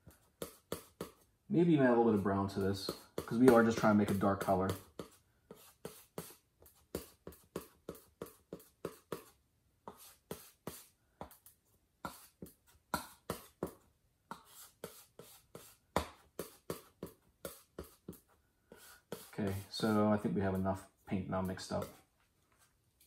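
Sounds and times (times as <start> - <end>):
palette knife scraping paint: 2.4 - 9.3, 9.9 - 11.5, 12.1 - 22.1.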